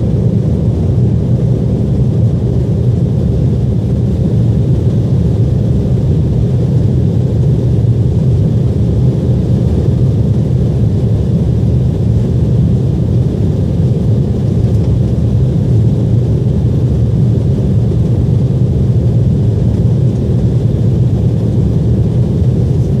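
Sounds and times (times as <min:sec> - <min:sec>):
jet engine drone in cabin: 0:00.0 - 0:23.0.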